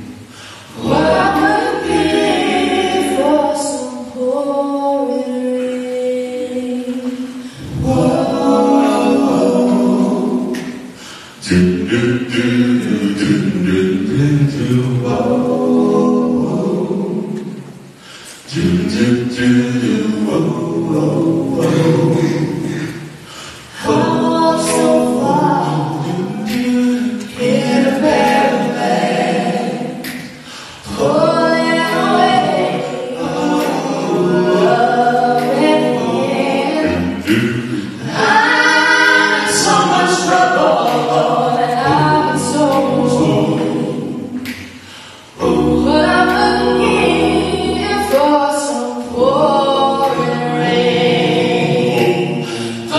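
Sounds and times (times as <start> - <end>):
a cappella vocal harmony: 0.0 - 52.9.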